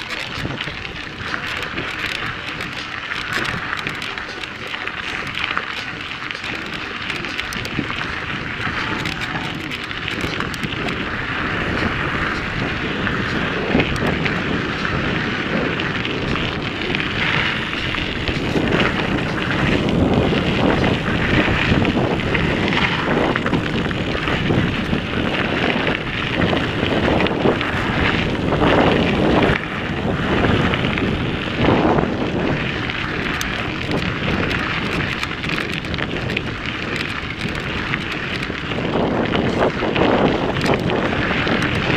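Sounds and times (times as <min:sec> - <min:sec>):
bike tyres rolling over gravel: 0:00.0 - 0:41.9
wind on the microphone: 0:00.0 - 0:41.9.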